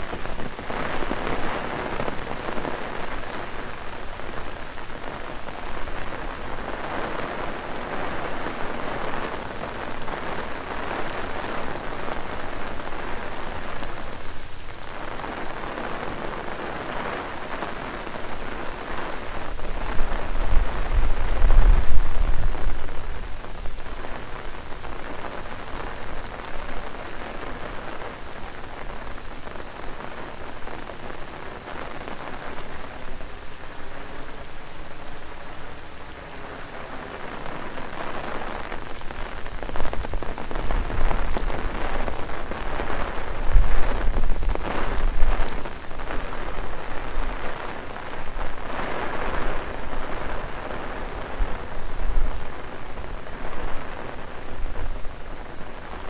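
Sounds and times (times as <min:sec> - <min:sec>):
cicadas droning: 0:00.0 - 0:56.0
heavy rain on an umbrella: 0:00.0 - 0:56.0.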